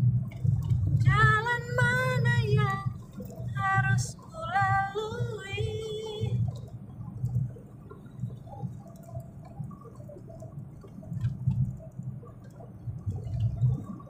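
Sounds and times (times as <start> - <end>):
car road noise rumble: 0.0 - 14.0.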